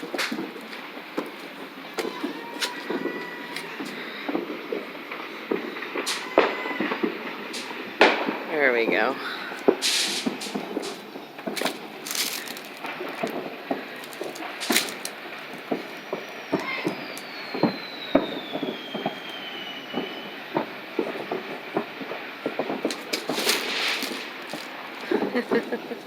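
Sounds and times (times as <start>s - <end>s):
falling firework whistle: 0.0s - 8.4s, 9.4s - 26.0s
fireworks popping and crackling: 0.0s - 26.0s.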